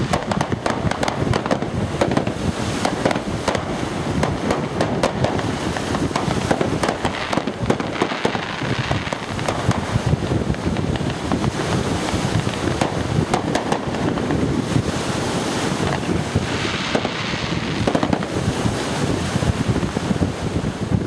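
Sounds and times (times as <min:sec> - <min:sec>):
distant fireworks popping: 0:00.0 - 0:20.9
wind buffeting microphone: 0:00.0 - 0:21.0.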